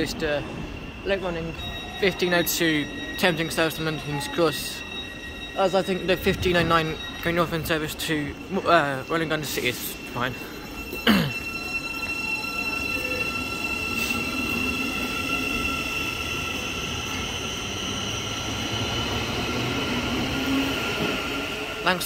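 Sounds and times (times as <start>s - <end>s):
electric train high whine: 0.0s - 22.0s.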